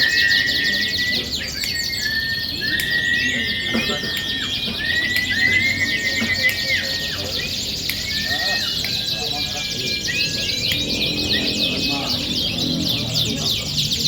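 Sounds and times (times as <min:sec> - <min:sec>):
canaries singing: 0:00.0 - 0:14.0.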